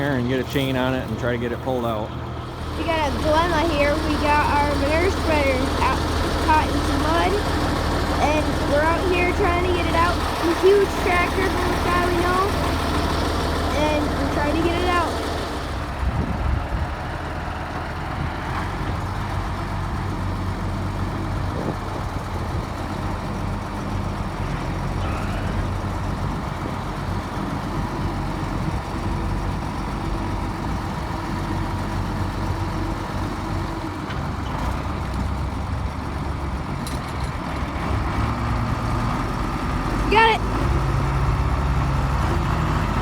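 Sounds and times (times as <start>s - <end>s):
tractor engine under load: 0.0s - 43.0s.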